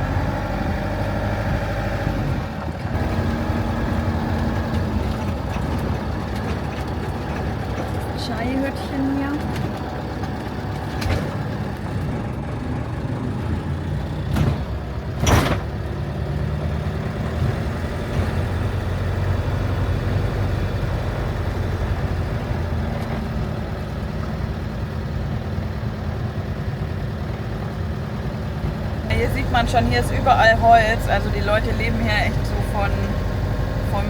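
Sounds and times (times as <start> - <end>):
van engine and road rumble: 0.0 - 34.0.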